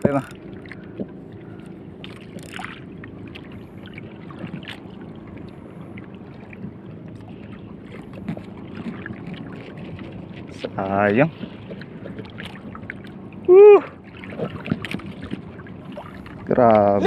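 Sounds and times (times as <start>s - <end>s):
boat engine running: 0.0s - 17.0s
water splashing along hull: 0.0s - 17.0s.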